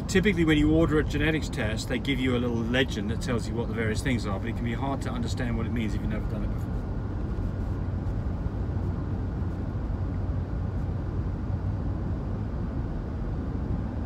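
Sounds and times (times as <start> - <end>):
car road rumble inside cabin: 0.0 - 14.0.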